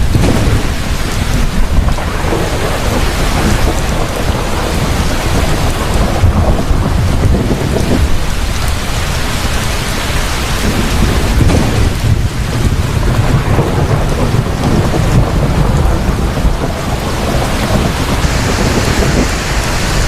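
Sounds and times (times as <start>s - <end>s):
deep rolling thunder: 0.0s - 20.0s
heavy rain falling: 0.0s - 20.0s.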